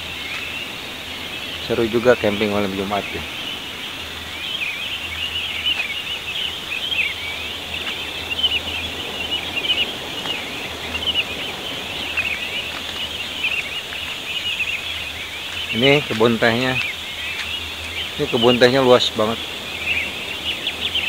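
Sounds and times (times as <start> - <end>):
small birds chirping and trilling: 0.0 - 21.0.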